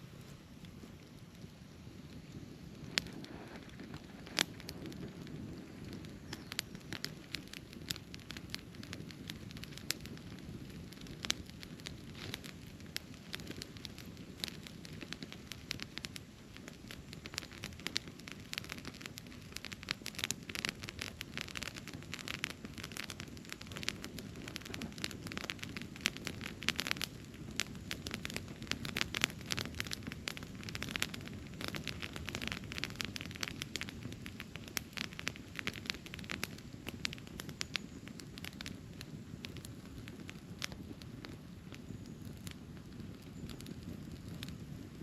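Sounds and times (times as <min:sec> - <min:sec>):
campfire crackling and popping: 0:00.0 - 0:45.0
low rumble of flames: 0:00.0 - 0:45.0.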